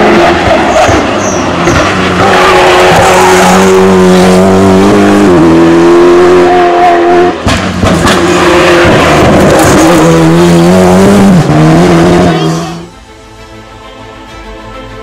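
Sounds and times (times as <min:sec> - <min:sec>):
rally car engine revving high: 0:00.0 - 0:12.9.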